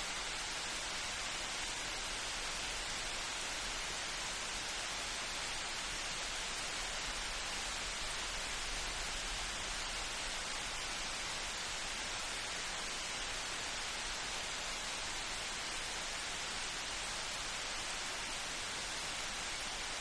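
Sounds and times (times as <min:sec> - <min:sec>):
light rain hissing: 0:00.0 - 0:20.0.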